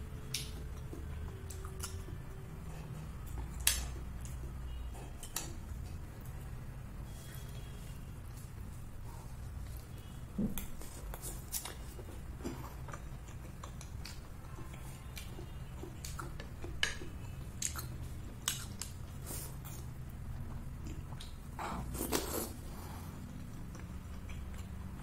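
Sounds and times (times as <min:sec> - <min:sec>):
wet chewing: 0:00.2 - 0:06.0, 0:09.6 - 0:25.0.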